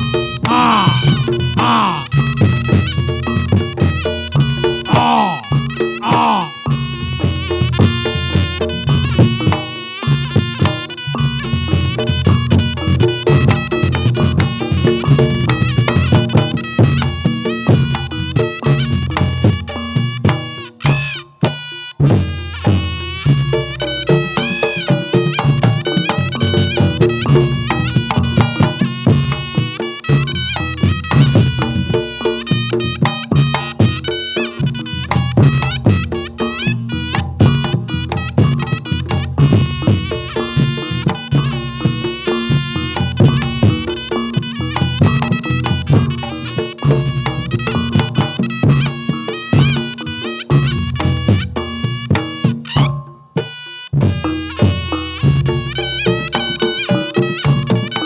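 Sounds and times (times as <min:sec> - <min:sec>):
drums and gongs: 0:00.0 - 0:58.0
reedy shawm melody: 0:00.0 - 0:58.0.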